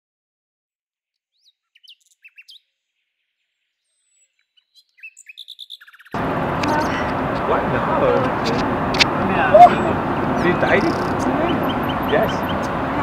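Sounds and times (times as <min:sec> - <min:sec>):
small birds chirping: 0:01.2 - 0:07.5, 0:08.2 - 0:13.0.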